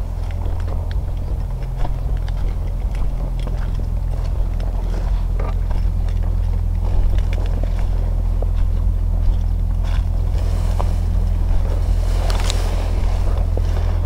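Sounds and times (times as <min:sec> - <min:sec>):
light clicks and crackles: 0:00.0 - 0:14.0
small engine running: 0:00.0 - 0:14.0.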